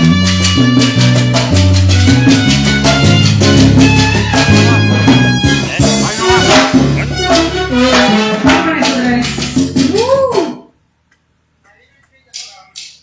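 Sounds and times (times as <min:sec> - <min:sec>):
live band playing latin dance music: 0:00.0 - 0:10.6
drums and percussion beat: 0:00.0 - 0:10.7, 0:12.0 - 0:13.0.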